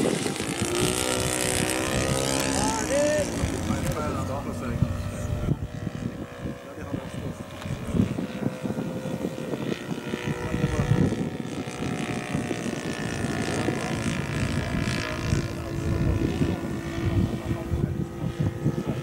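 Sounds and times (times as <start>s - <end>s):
model plane engine droning: 0.0s - 19.0s.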